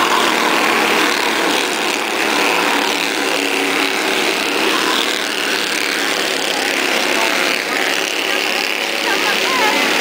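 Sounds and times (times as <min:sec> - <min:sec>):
race cars high-pitched engine buzz: 0:00.0 - 0:10.0.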